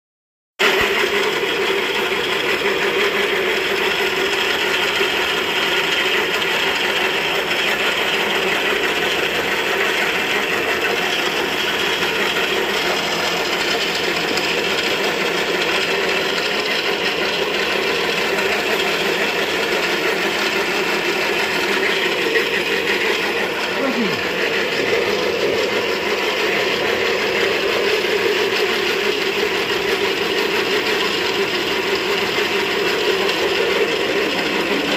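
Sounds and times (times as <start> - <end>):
machine rattling: 0.6 - 34.9
motor hum: 0.6 - 34.9.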